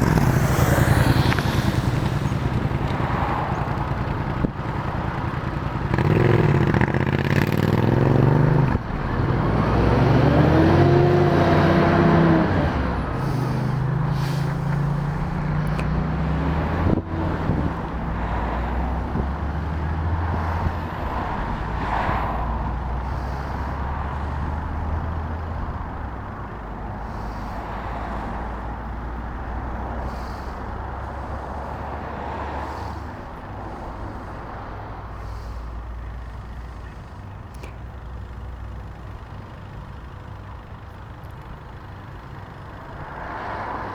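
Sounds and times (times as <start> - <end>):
vehicle engines passing by: 0.0 - 43.9.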